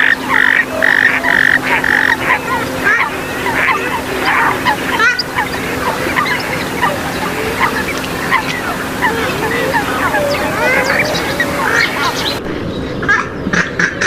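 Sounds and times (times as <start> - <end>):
swamphen and moorhen calls: 0.0 - 12.4.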